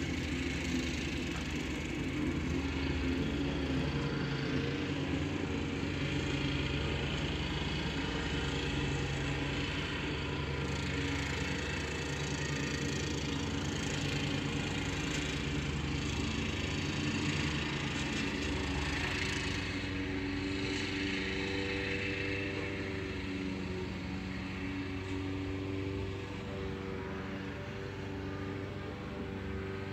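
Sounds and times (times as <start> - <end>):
engine humming at idle: 0.0 - 29.9.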